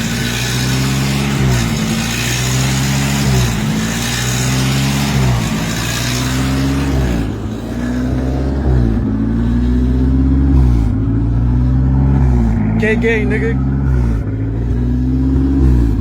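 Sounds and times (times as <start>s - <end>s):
car engine hunting idle: 0.0s - 16.0s.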